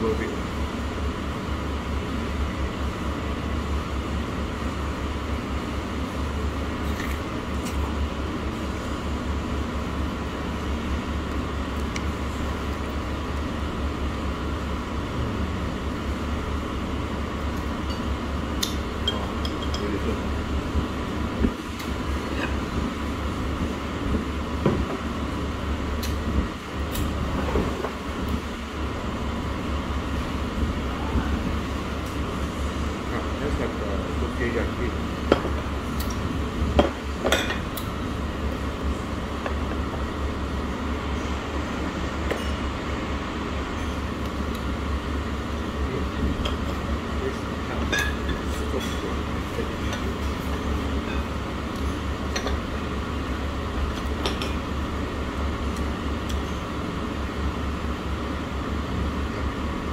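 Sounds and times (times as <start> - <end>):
low background rumble and hum: 0.0 - 59.9.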